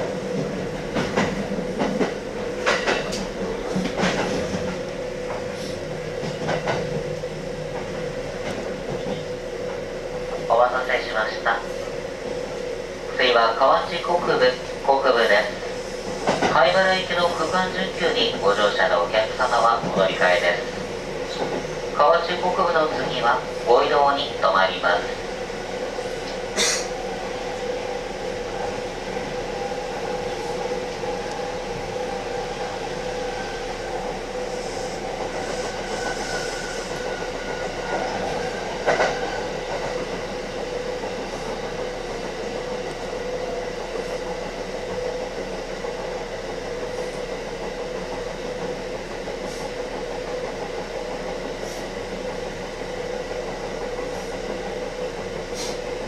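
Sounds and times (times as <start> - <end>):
train motor hum: 0.0 - 56.0
wheels rumbling on rail: 0.0 - 56.0.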